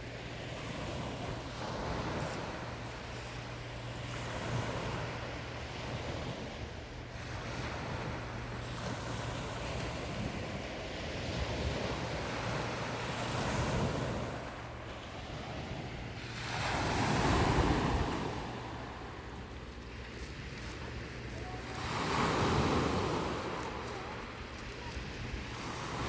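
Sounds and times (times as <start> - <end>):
sea waves washing ashore: 0.0 - 26.0
wind rumbling on microphone: 0.0 - 26.0.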